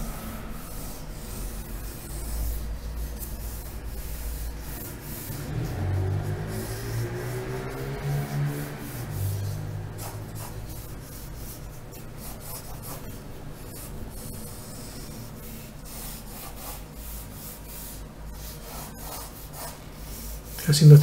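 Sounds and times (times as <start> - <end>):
pencil scratching on paper: 0.6 - 21.0.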